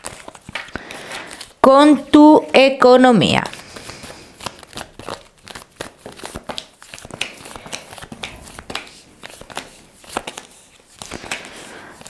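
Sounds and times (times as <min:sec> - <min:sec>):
cards being shuffled: 0:00.0 - 0:01.6, 0:03.4 - 0:12.0.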